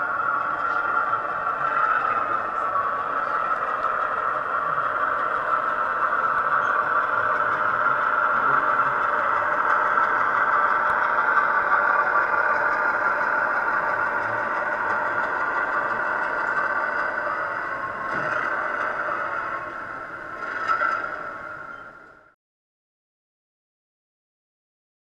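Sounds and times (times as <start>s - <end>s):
model diesel locomotive engine drone: 0.0s - 22.4s.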